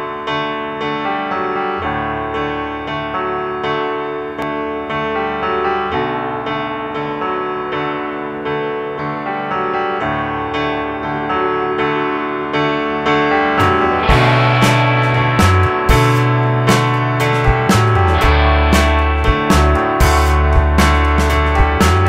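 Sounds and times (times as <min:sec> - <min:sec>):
piano background music: 0:00.0 - 0:22.0.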